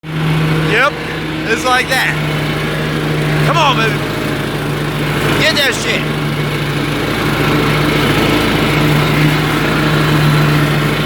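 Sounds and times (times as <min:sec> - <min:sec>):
riding lawnmower engine running: 0:00.0 - 0:11.0.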